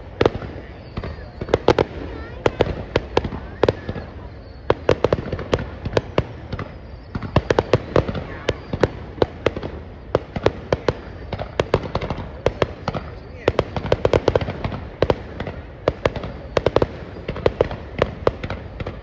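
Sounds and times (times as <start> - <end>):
fireworks banging: 0.0 - 19.0.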